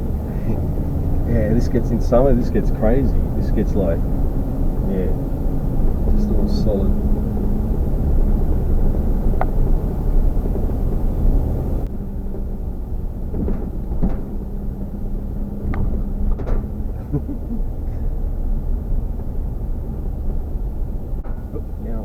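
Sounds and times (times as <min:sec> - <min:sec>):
low hum: 0:00.0 - 0:22.0
vehicle rumble: 0:00.0 - 0:22.0.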